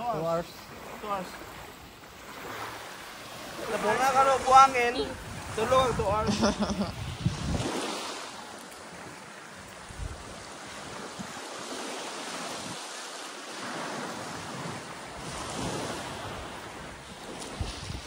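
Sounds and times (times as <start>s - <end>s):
sea surf washing on beach: 0.0s - 18.0s
wind buffeting microphone: 1.5s - 18.0s.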